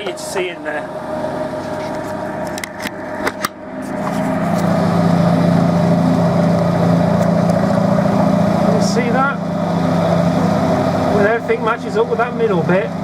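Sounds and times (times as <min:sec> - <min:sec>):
wood lathe motor hum: 0:00.9 - 0:13.0.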